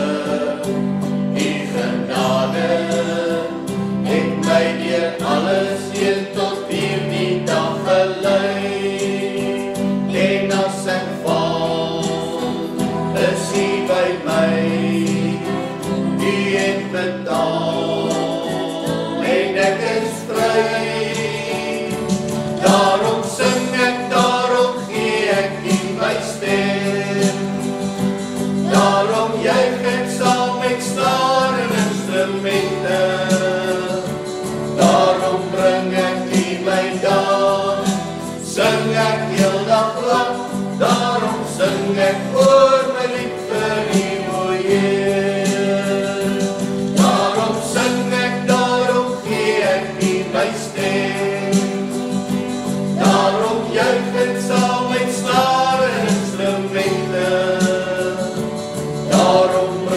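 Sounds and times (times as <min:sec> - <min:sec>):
group singing praise song: 0:00.0 - 0:59.9
strummed acoustic guitars: 0:00.0 - 0:59.9.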